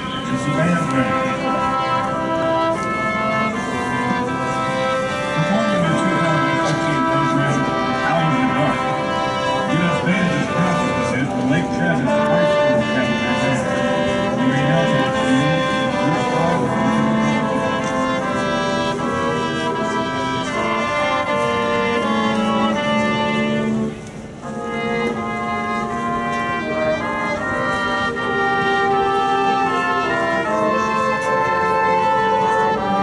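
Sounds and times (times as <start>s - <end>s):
marching band brass chords: 0.0s - 33.0s.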